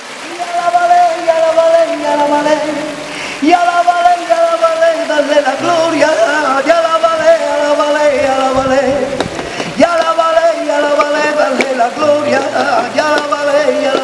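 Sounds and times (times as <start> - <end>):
man singing held notes: 0.4 - 14.0.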